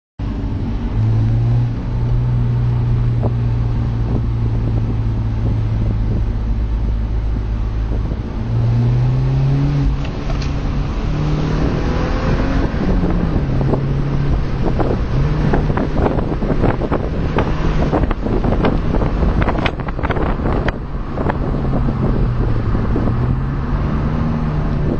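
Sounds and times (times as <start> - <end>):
car engine running: 0.2 - 24.9
wind noise: 0.4 - 24.9
wind buffeting microphone: 0.6 - 24.9.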